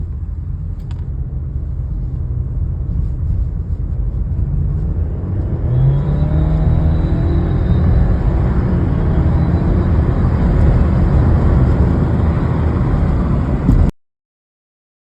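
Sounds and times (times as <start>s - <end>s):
car exhaust rumble: 0.0s - 13.9s.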